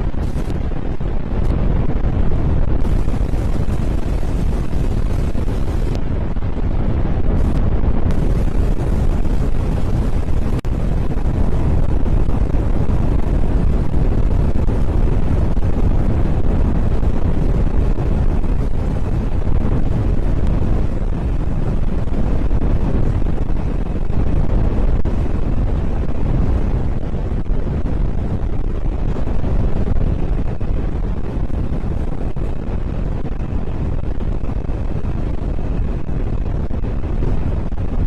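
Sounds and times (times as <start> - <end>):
strong wind on microphone: 0.0 - 38.0.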